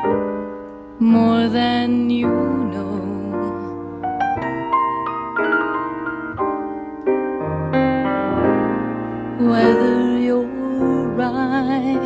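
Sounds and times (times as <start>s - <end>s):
slow solo piano chords: 0.0s - 12.0s.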